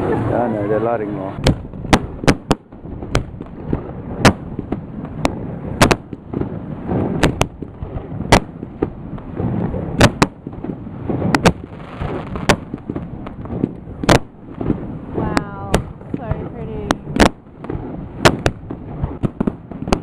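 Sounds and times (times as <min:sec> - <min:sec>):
fireworks bangs: 0:00.0 - 0:20.0
fireworks rumble and crackle: 0:00.0 - 0:20.0.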